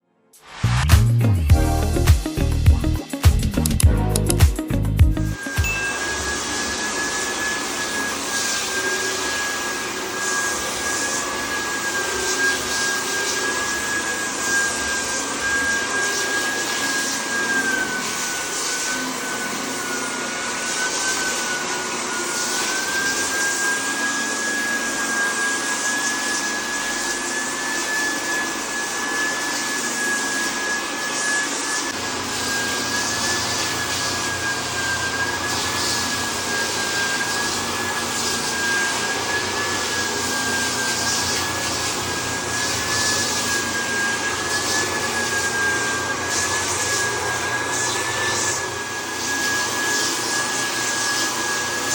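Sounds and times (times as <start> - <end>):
floor sanding machine running: 5.3 - 51.9.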